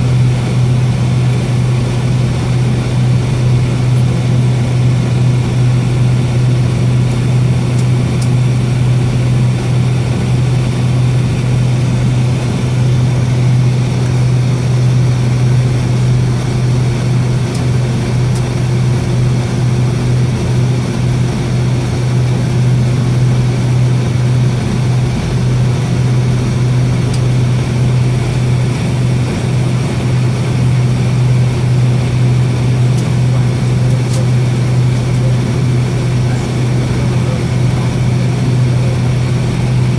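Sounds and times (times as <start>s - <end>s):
cabin airflow noise: 0.0s - 39.9s
jet engines idling drone: 0.0s - 39.9s.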